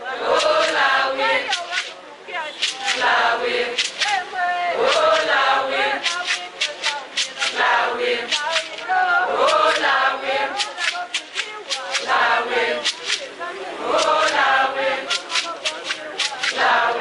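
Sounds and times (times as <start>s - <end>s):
women singing in chorus: 0.0s - 2.0s, 3.0s - 17.0s
sharp rhythmic strikes: 0.4s - 17.0s.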